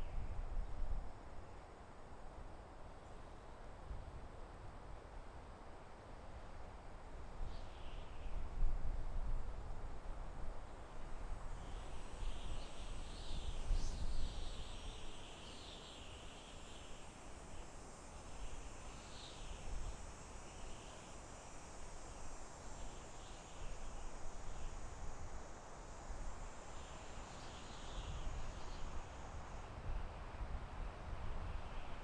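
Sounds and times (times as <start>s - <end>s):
faint high insect hum: 0.0s - 32.0s
soft wind in a forest: 0.0s - 32.0s.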